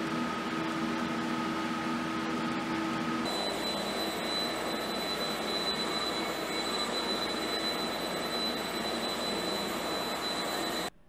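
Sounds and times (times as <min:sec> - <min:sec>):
mechanical whirring with whine: 0:00.1 - 0:11.0.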